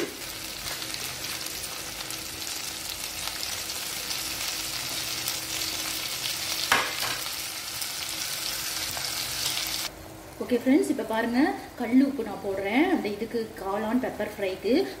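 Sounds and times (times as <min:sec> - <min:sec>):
mushrooms sizzling in oil: 0:00.0 - 0:14.6.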